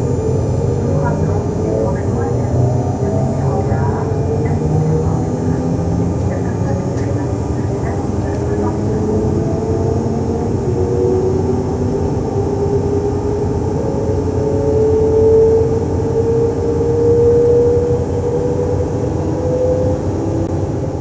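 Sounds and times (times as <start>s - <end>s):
rising whine: 0.0s - 21.0s
train electrical hum and rumble: 0.0s - 21.0s.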